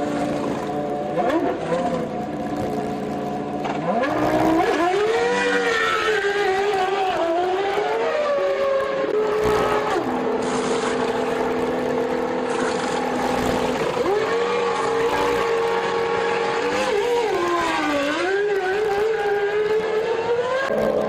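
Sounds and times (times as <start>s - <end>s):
racing car engine revving: 0.0s - 21.0s.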